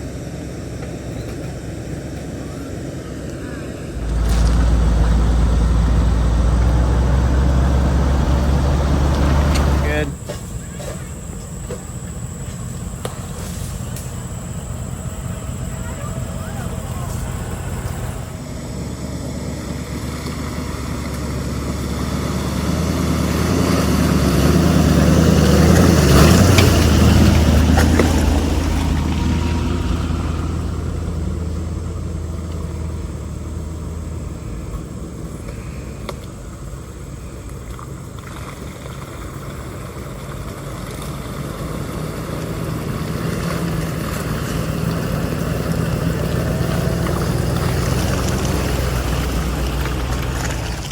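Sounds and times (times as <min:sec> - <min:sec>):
off-road vehicle engine: 0:00.0 - 0:50.9.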